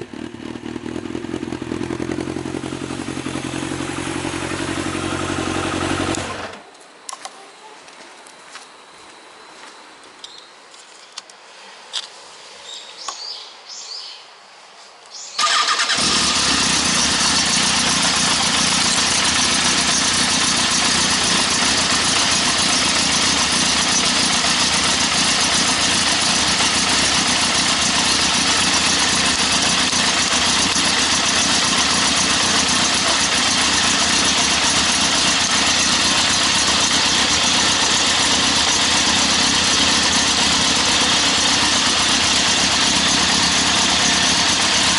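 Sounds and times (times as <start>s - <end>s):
motorcycle engine idling: 0.0s - 6.6s, 15.4s - 44.9s.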